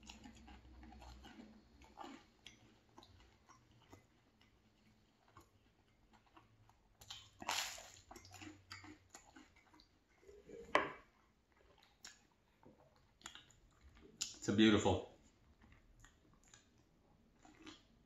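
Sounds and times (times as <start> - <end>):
soft chewing clicks: 0.0 - 14.5, 15.2 - 18.0.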